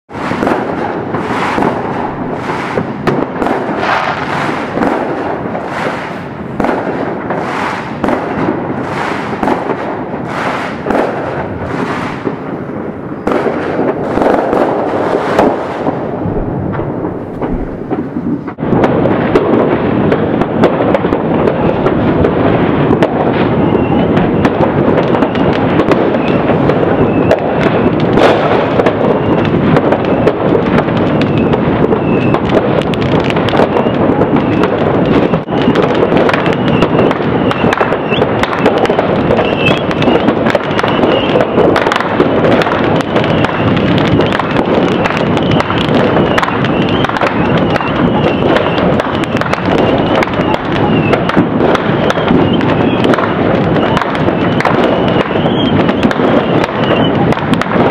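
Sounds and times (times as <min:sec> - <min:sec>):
firecrackers crackling and banging: 0:00.0 - 0:57.9.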